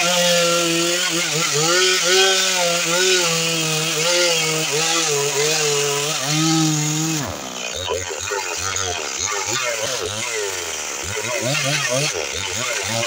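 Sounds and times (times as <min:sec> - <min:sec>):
chainsaw cutting log: 0:00.0 - 0:13.0.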